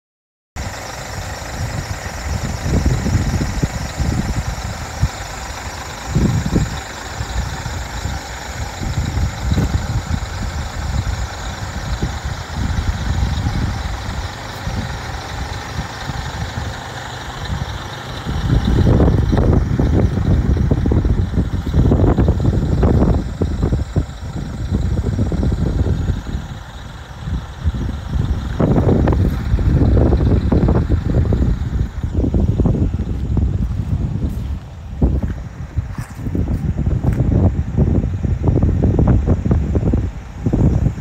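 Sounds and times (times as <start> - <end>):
truck diesel engine idling: 0.6 - 41.0
wind buffeting microphone: 0.6 - 41.0.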